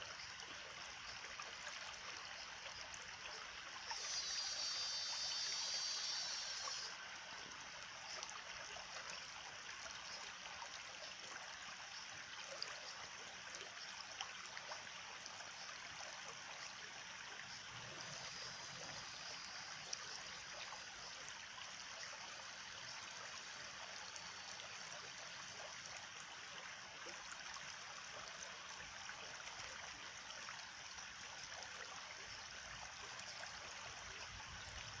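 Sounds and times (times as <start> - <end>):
stream trickling: 0.0 - 35.0.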